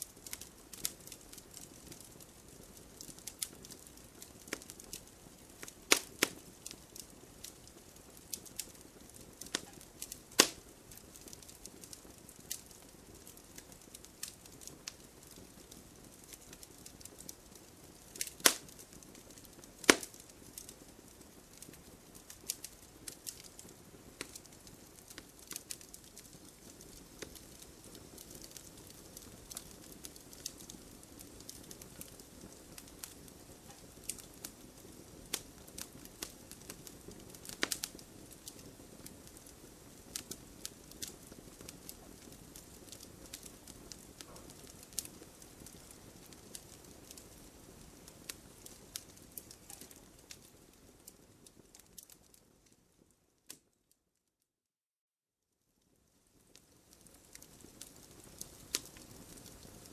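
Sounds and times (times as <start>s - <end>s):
wood fire burning: 0.0s - 53.7s, 55.9s - 59.9s
fire crackles and pops: 0.0s - 54.0s, 55.8s - 59.9s.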